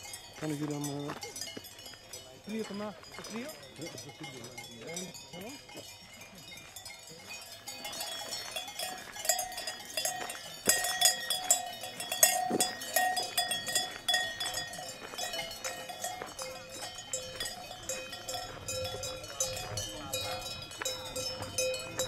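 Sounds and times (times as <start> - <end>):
cow bells clanking: 0.0 - 22.0.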